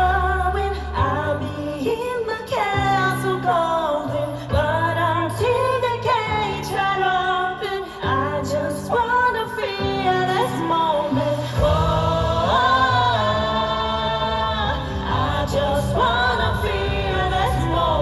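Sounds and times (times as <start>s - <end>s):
live pop band playing: 0.0s - 18.0s
woman singing: 0.0s - 18.0s.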